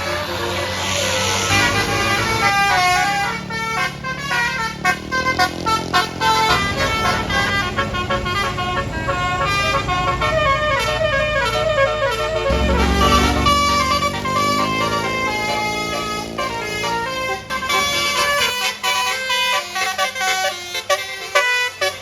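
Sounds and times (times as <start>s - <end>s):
bus engine running: 0.0s - 22.0s
musical bus horn playing tune: 0.0s - 22.0s.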